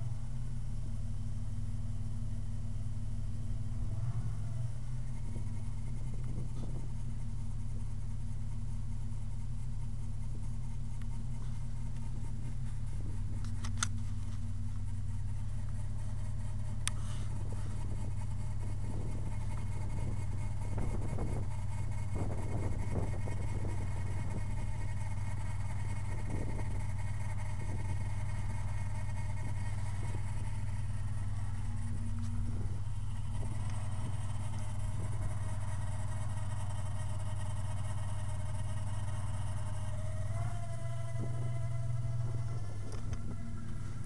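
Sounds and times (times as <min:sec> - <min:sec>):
engine running with whine: 0:00.0 - 0:44.0.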